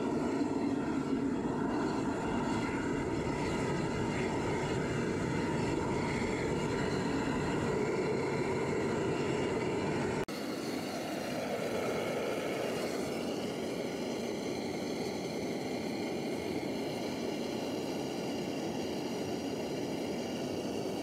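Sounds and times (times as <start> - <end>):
furnace burner roaring: 0.0 - 21.0.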